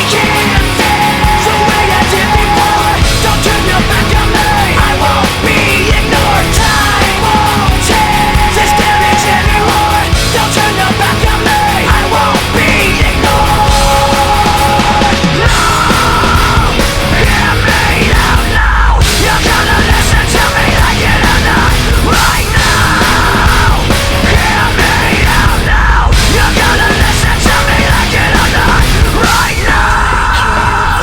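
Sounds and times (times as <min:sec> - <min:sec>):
heavy rock music: 0:00.0 - 0:31.0.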